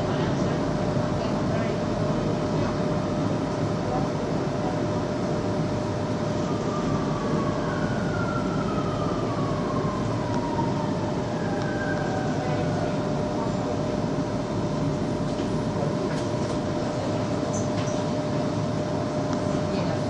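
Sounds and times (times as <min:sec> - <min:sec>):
metro train rumble: 0:00.0 - 0:20.0.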